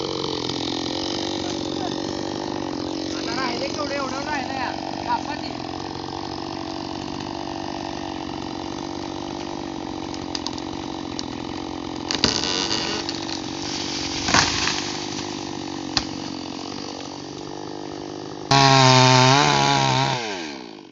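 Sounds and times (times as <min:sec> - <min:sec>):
chainsaw engine running: 0:00.0 - 0:20.9.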